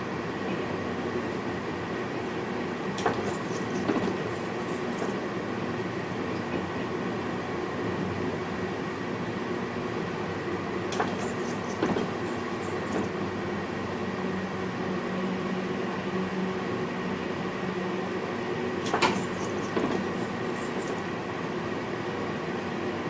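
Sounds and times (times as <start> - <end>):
train running gear hum: 0.0 - 23.0.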